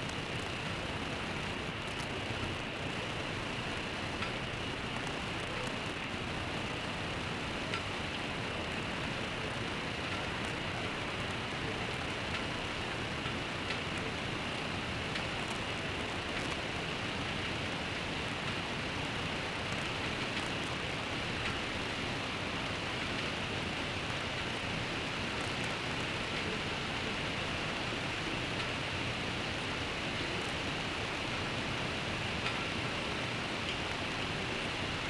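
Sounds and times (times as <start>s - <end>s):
faint raindrop ticks: 0.0s - 35.0s
steady rain hissing: 0.0s - 35.0s.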